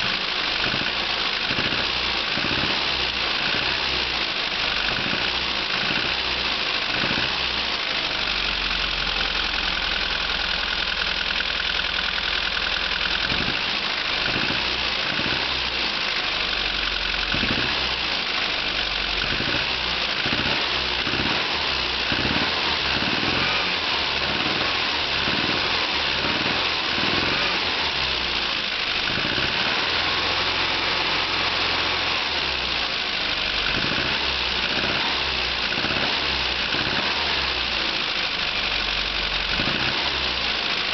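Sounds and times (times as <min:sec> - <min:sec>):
abnormal engine noise: 0:00.0 - 0:40.9
car engine revving: 0:00.0 - 0:40.9.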